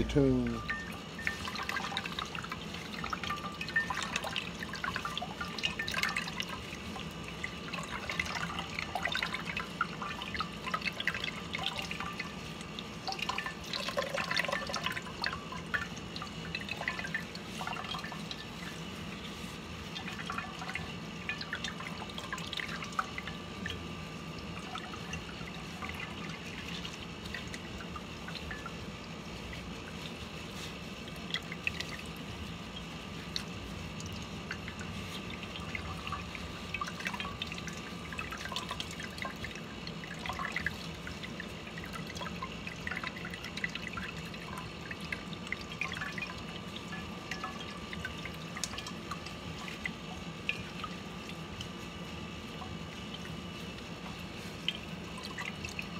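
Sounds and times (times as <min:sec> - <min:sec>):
steady low hum: 0:00.0 - 0:55.9
liquid dripping into a pot: 0:00.5 - 0:55.9.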